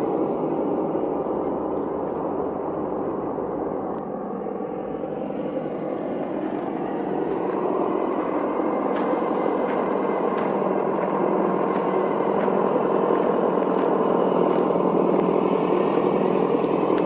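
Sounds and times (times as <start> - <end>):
electric drivetrain whir: 0.0 - 17.0
simulated engine sound from speaker: 0.0 - 17.0.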